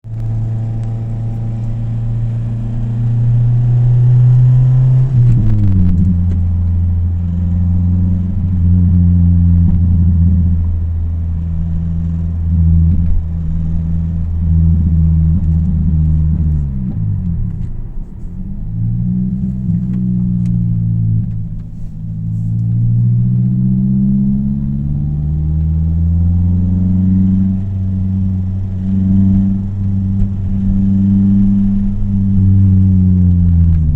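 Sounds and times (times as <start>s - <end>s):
car engine at raised revs: 0.0s - 33.9s.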